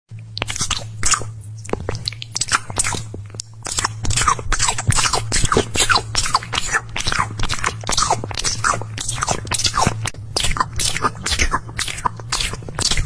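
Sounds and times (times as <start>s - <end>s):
crunchy food being chewed: 0.1s - 13.0s
steady low hum: 0.1s - 13.0s.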